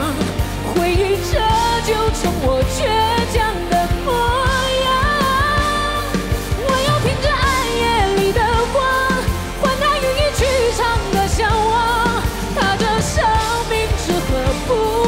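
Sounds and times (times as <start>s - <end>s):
band playing with drum beat: 0.0s - 15.0s
woman singing pop song: 0.0s - 15.0s.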